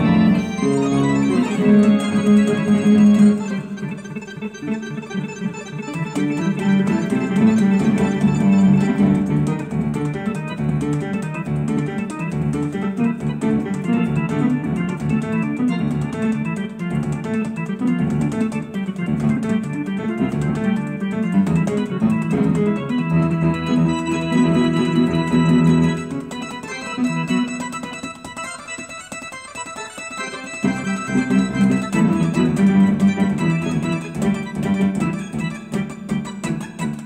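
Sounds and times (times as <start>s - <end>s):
electronic keyboard chords: 0.0s - 29.3s, 30.4s - 37.0s.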